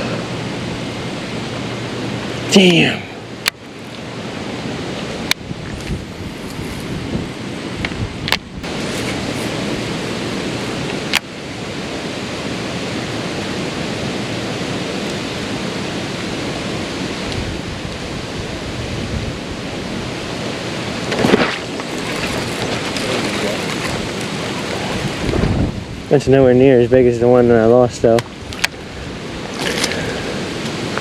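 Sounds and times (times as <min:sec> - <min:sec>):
rushing outdoor noise: 0:00.0 - 0:31.0.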